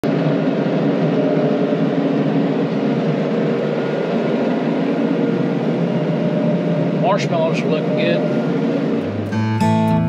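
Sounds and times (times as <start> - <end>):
combine harvester running: 0.0 - 10.0.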